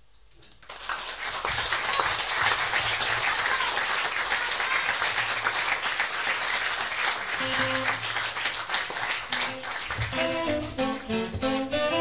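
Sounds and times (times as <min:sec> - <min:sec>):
audience applauding: 0:00.6 - 0:12.0.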